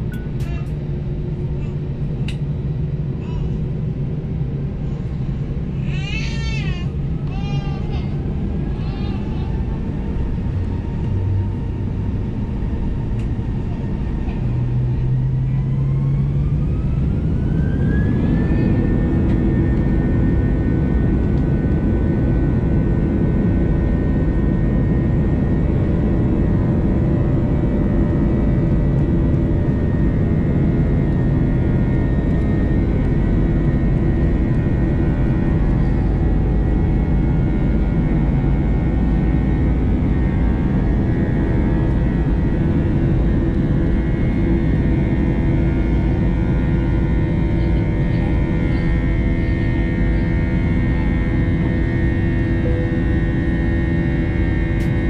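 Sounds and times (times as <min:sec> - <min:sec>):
jet engine whine: 0:00.0 - 0:55.0
loud rumble of plane rolling: 0:00.0 - 0:55.0.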